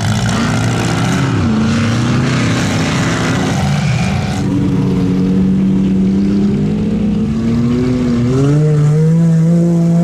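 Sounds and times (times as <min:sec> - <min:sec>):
truck engine running: 0:00.0 - 0:09.3.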